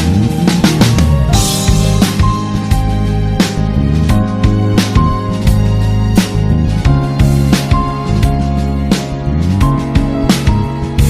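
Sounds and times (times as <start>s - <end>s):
instrumental pop music: 0.0s - 11.0s.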